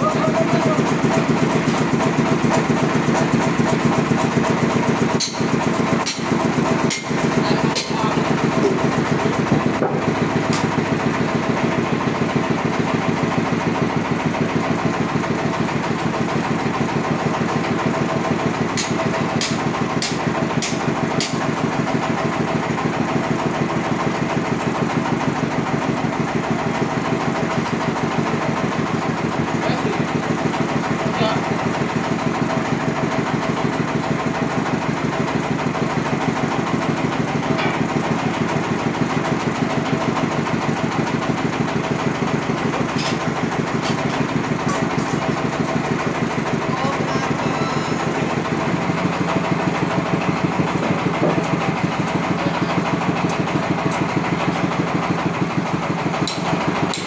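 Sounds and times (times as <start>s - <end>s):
sawmill engine idling: 0.0s - 57.0s.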